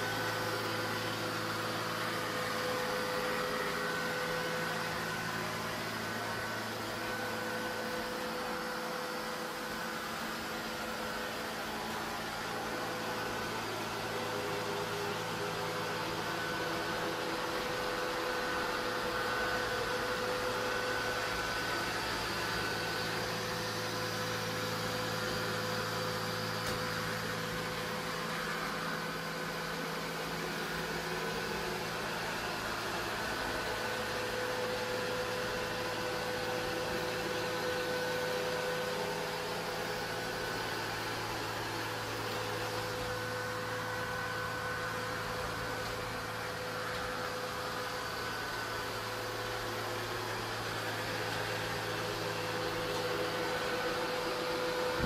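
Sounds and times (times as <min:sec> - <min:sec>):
robot vacuum running: 0:00.0 - 0:55.0.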